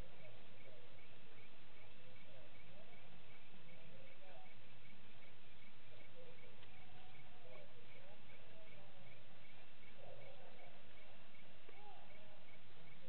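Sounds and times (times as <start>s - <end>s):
wavering gliding animal calls: 0.0s - 13.0s.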